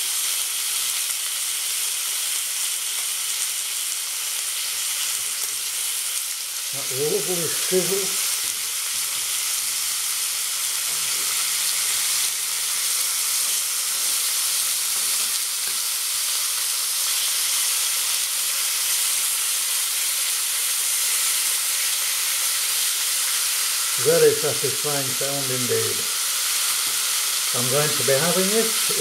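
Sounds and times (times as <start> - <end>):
bacon sizzling in a frying pan: 0.0 - 29.0.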